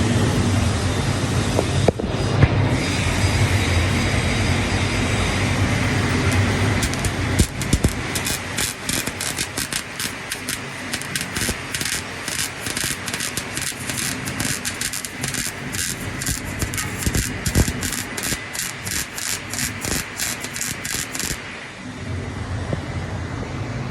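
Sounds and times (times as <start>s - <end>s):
arc welding crackling: 0.0s - 21.8s
welder humming: 0.0s - 21.8s.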